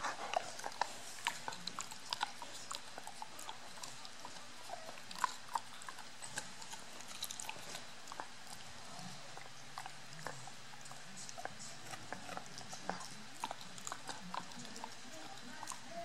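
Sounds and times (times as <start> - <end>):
dog chewing rawhide: 0.0 - 16.0.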